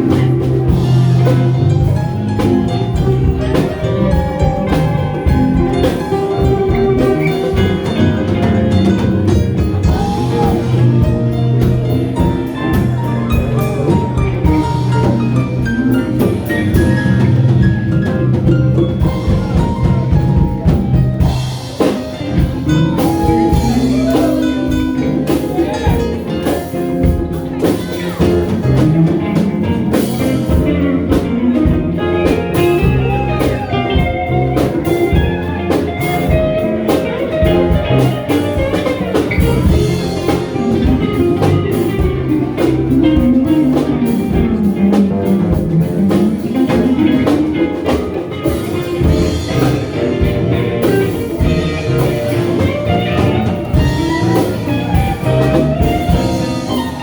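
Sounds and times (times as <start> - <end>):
ragtime band playing: 0.0 - 57.0
steady drum beat: 0.0 - 57.0.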